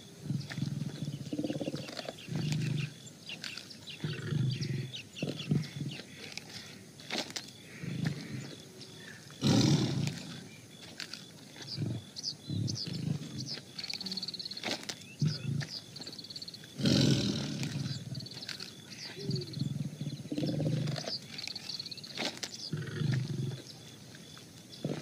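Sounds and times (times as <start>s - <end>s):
tiger growling: 0.0s - 25.0s.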